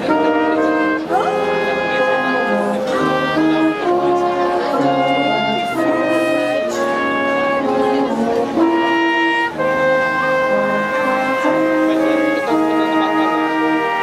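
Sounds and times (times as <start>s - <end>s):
brass ensemble playing chords: 0.0s - 14.0s.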